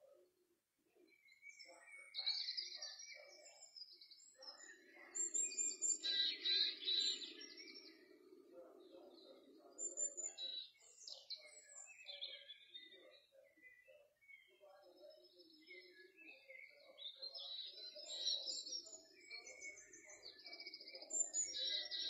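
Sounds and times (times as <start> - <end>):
birds chirping and singing: 0.9 - 22.0.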